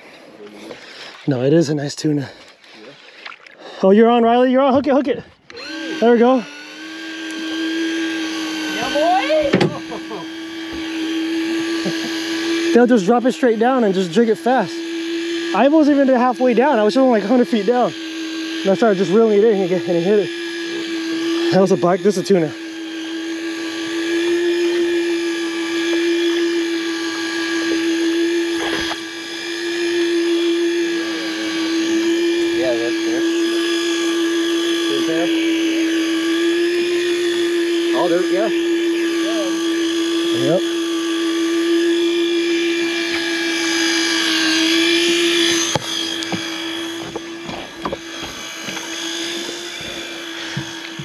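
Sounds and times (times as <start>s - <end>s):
electric motor whining: 0.0s - 51.0s
fishing reel gears whirring: 5.4s - 51.0s.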